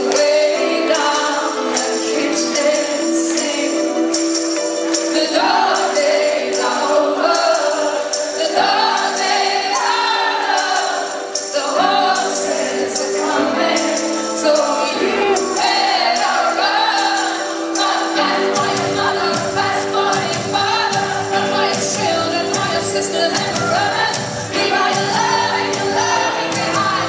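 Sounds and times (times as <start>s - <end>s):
live pop rock band: 0.0s - 27.0s
woman singing: 0.0s - 27.0s.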